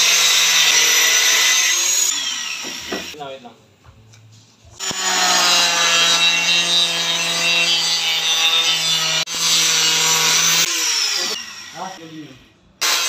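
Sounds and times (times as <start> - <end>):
angle grinder cutting: 0.0 - 3.2, 4.8 - 12.2, 12.8 - 13.0.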